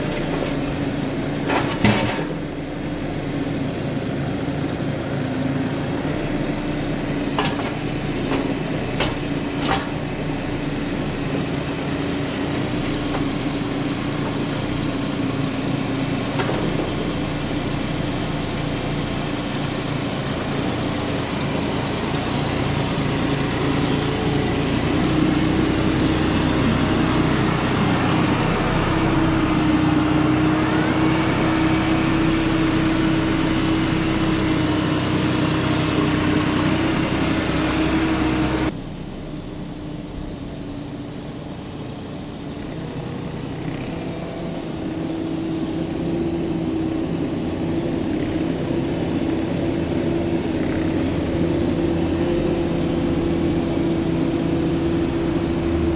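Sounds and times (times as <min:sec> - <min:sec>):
heavy equipment engine running: 0:00.0 - 0:55.9.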